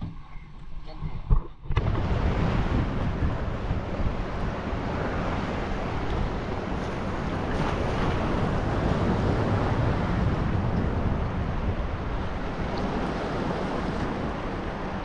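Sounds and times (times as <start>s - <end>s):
wind on microphone: 0.9s - 15.0s.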